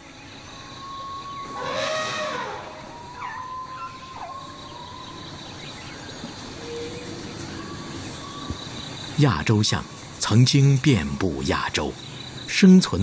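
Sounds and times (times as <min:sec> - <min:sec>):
insect drone: 0:00.0 - 0:13.0.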